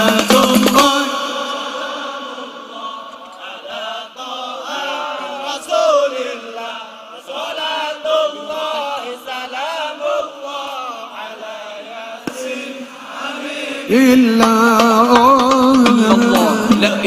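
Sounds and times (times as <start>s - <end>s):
voices chanting wordless melody: 0.0s - 17.0s.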